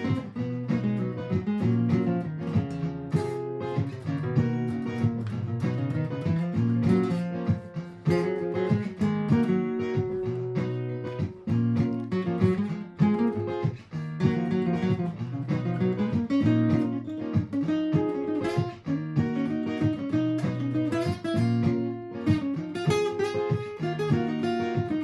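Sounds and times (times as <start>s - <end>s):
acoustic guitar strumming: 0.0s - 25.0s
looped guitar playback: 0.0s - 25.0s.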